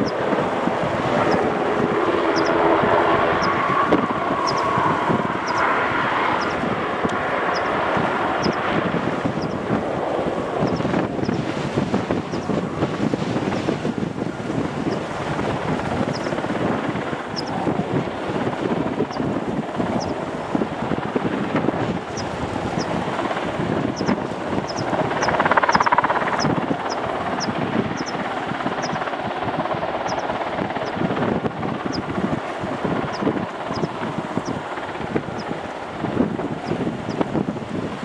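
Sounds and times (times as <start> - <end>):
helicopter rotor and turbines rumbling: 0.0 - 38.0
wind buffeting microphone: 0.0 - 38.0.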